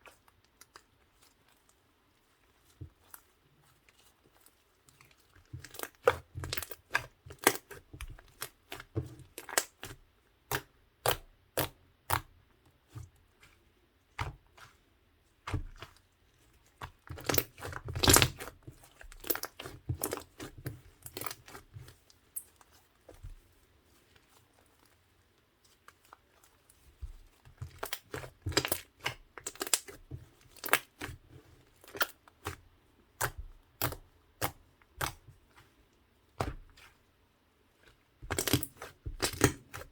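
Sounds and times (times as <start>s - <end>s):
slime squished by hand: 0.0s - 37.0s, 37.7s - 39.9s.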